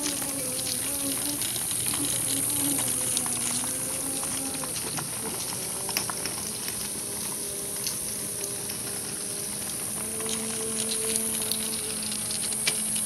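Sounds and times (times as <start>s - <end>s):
wagon wheels rattling on pavement: 0.0s - 13.0s.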